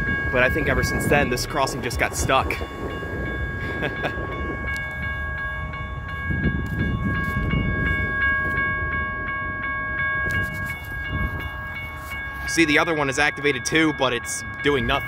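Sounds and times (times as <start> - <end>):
crossing bell ringing: 0.0 - 15.0.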